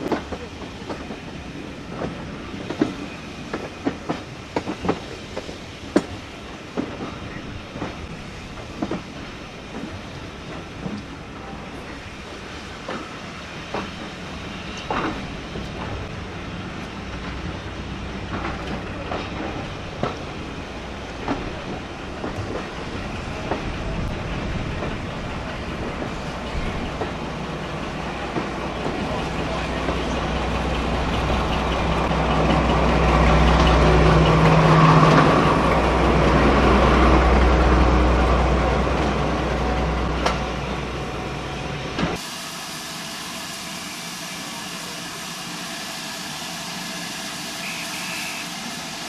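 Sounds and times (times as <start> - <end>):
train rumbling: 0.0 - 49.0.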